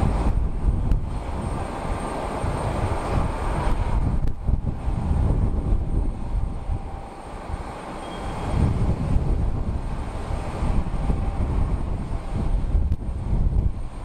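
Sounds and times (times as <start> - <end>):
jet engine rumble: 0.0 - 14.0
wind buffeting microphone: 0.0 - 14.0.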